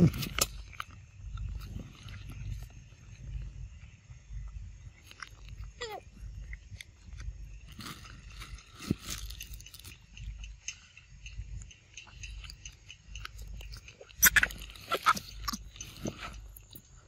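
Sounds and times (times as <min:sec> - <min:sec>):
monkey chewing fruit: 0:00.0 - 0:17.0.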